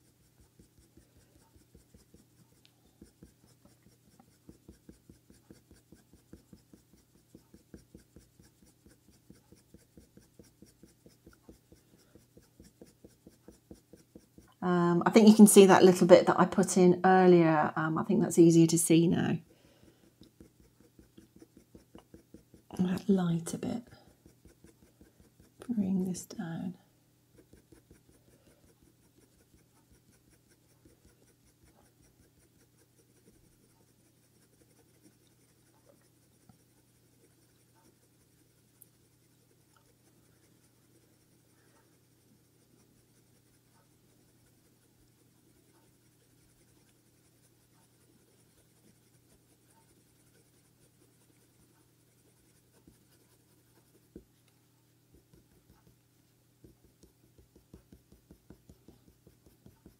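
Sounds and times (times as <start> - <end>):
pencil scratching on paper: 0.0 - 17.0, 17.8 - 59.9.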